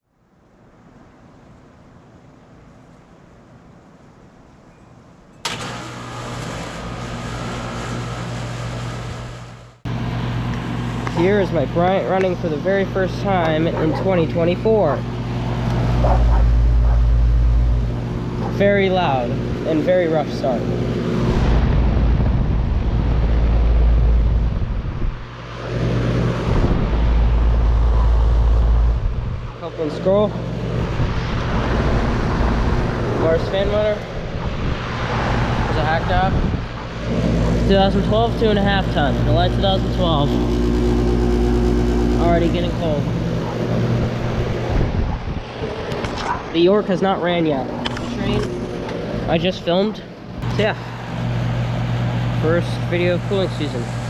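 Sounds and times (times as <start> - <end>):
air conditioner compressor humming: 5.4 - 54.0
condenser fan noise: 5.4 - 54.0.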